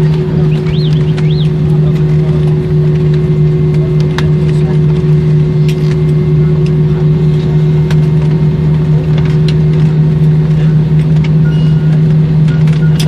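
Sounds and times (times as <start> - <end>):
jet airliner cabin drone: 0.0 - 13.0.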